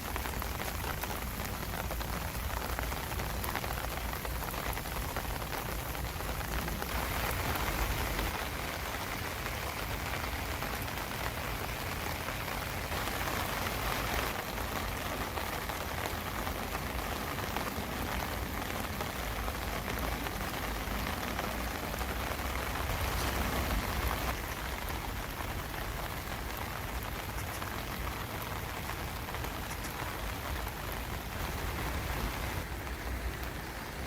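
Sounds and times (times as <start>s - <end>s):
rain on vegetation: 0.0s - 34.0s.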